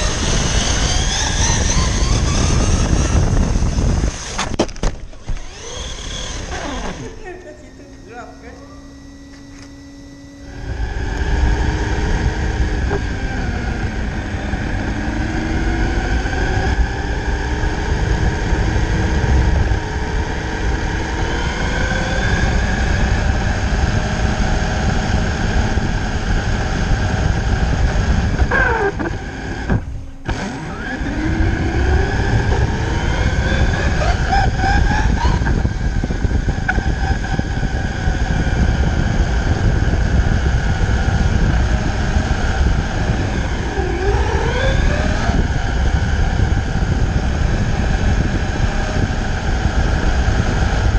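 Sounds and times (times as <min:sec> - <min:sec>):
electric motor whining: 0:00.0 - 0:50.9
tyre and chassis rumble: 0:00.0 - 0:50.9.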